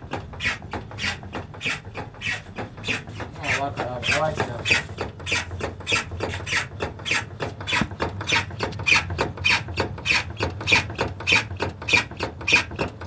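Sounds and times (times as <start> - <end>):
steering rack squeaking and rasping: 0.0 - 13.0.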